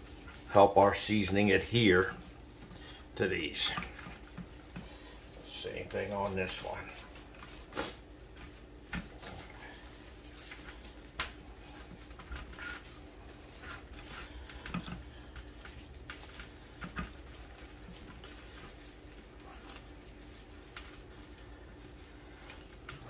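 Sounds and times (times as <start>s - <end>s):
hands rubbing meat: 0.0s - 23.0s
steady low hum: 0.0s - 23.0s.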